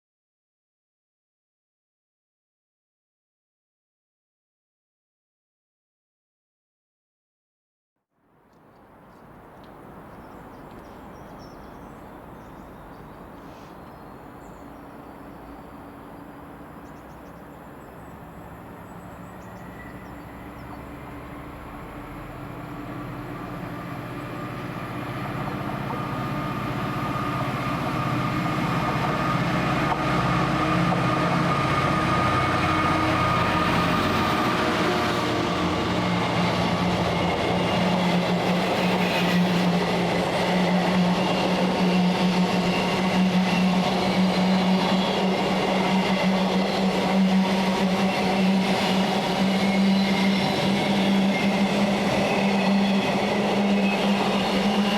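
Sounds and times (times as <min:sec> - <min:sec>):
train rumbling past: 0:08.9 - 0:54.9.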